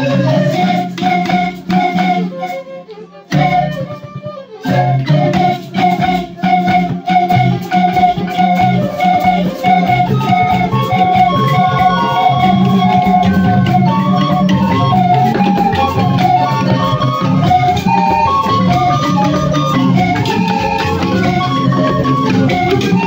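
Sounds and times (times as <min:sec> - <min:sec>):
panpipes ensemble playing: 0:00.0 - 0:23.0.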